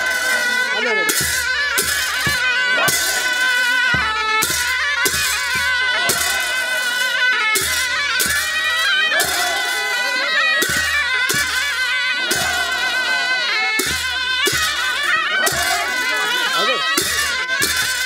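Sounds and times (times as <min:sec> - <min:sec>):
shrill wind instrument melody: 0:00.0 - 0:18.0
steady drum beat: 0:00.0 - 0:18.0.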